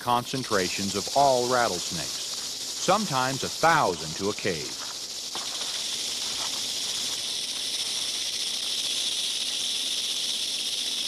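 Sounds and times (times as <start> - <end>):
rattlesnakes rattling: 0.0 - 11.0.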